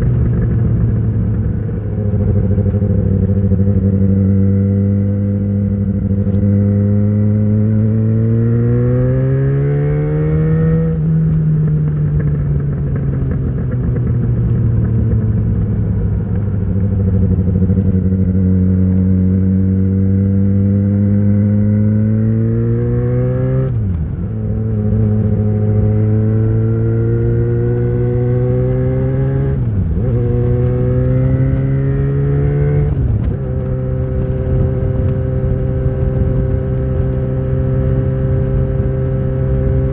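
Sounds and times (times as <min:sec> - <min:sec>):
motorcycle engine revving: 0:00.0 - 0:39.9
quick gear upshifts: 0:00.0 - 0:39.9.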